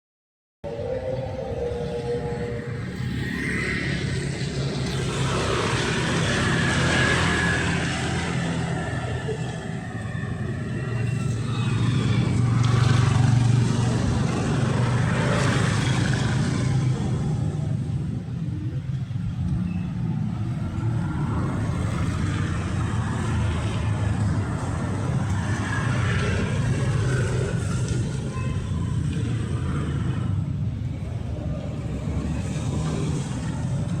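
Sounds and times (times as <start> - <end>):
street traffic: 0.6 - 34.0
vehicle passing: 0.7 - 34.0.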